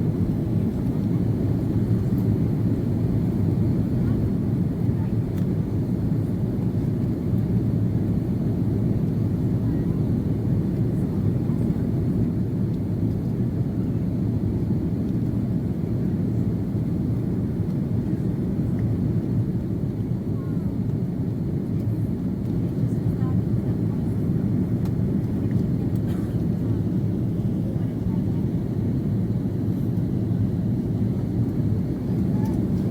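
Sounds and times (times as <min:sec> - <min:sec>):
jet engines roaring in cabin: 0:00.0 - 0:32.9.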